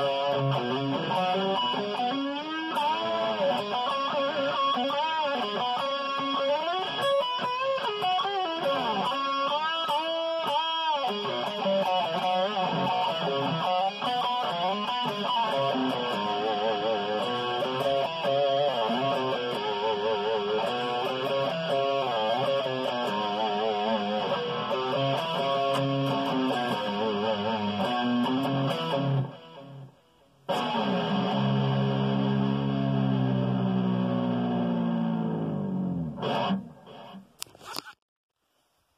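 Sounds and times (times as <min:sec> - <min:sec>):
electric guitar lead line: 0:00.0 - 0:37.4.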